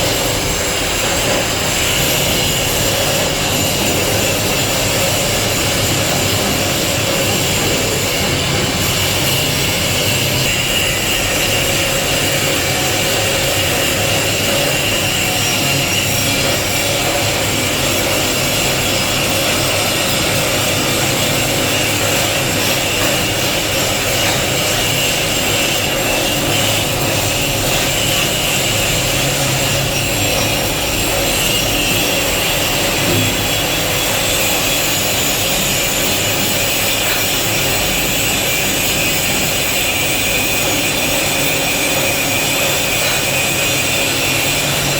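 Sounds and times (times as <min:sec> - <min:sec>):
welding arc sizzling: 0:00.0 - 0:44.9.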